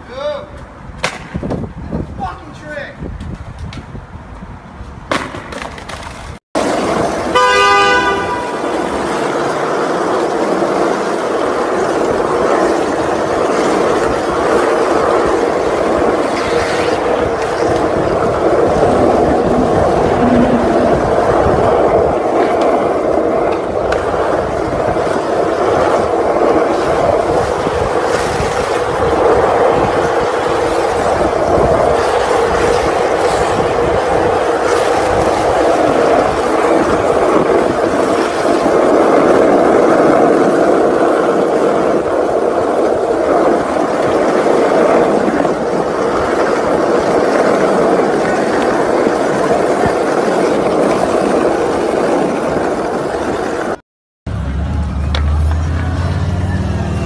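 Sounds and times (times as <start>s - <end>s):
skateboard wheels rolling on asphalt: 0.0s - 57.0s.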